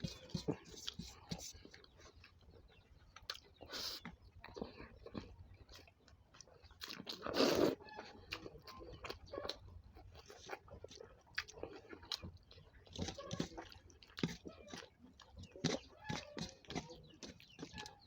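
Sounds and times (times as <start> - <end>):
chewing and wet mouth smacks: 0.0 - 18.0.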